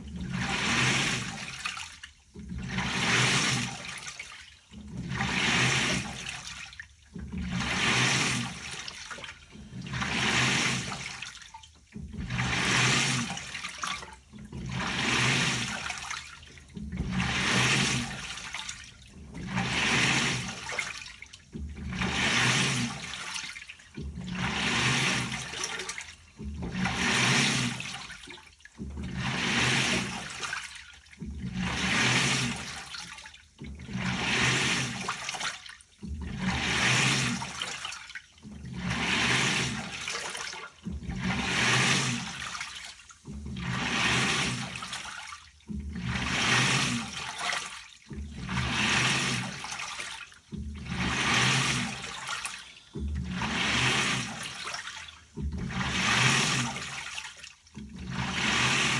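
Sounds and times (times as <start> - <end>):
low motor hum: 0.0 - 35.4, 36.0 - 58.9
water swishing in washer: 0.0 - 58.9.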